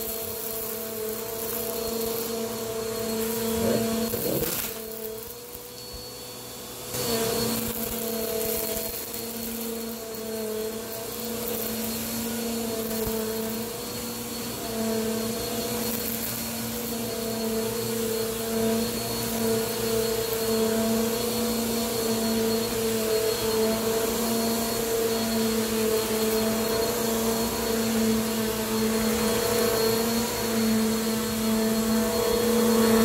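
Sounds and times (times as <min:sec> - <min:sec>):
vacuum cleaner running on carpet: 0:00.0 - 0:33.0.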